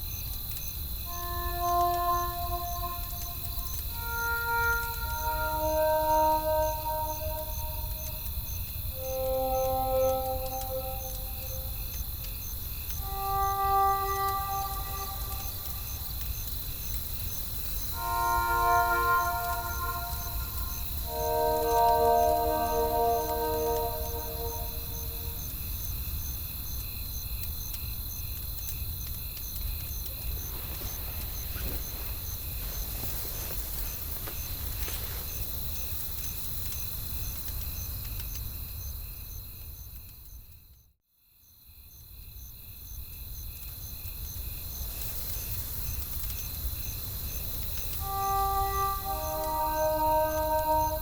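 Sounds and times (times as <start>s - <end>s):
crickets chirping: 0.0s - 36.5s, 42.6s - 51.0s.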